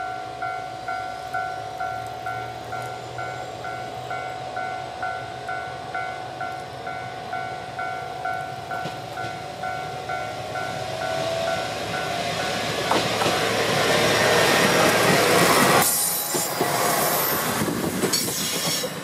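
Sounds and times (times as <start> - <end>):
diesel railcar passing: 0.0 - 19.0.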